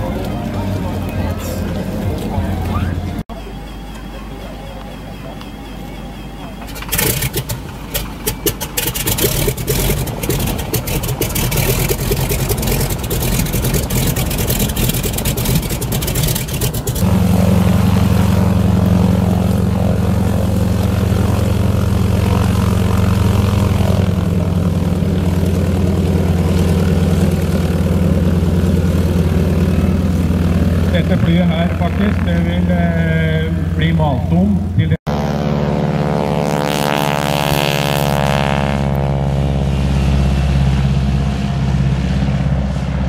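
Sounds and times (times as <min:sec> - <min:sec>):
radial aircraft engine running: 0:00.0 - 0:43.0.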